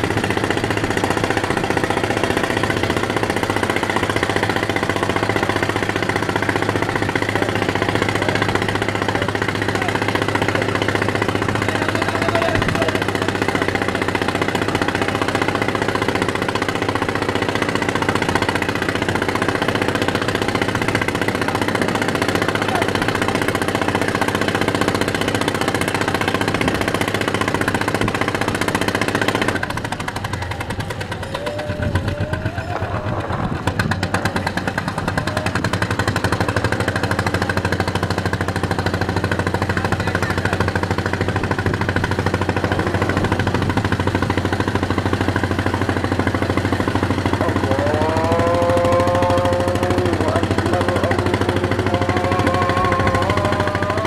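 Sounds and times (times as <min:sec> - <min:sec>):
boat diesel engine pounding: 0:00.0 - 0:54.0.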